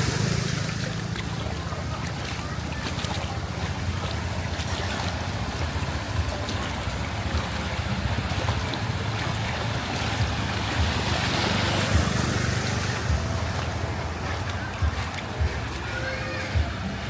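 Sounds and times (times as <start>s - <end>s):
traffic driving through water: 0.0s - 17.0s.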